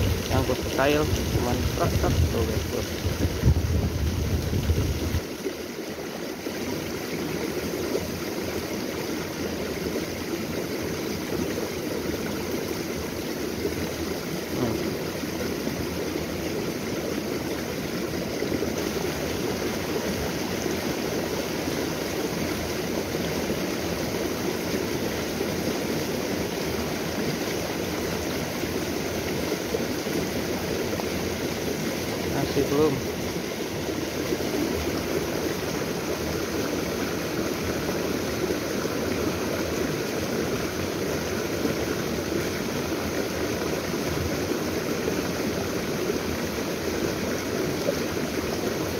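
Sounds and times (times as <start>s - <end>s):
stream flowing: 0.0s - 48.9s.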